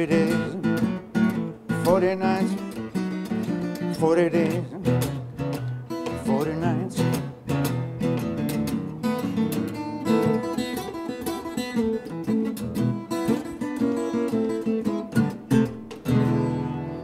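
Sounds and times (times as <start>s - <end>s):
fingerpicked blues acoustic guitar: 0.0s - 17.0s.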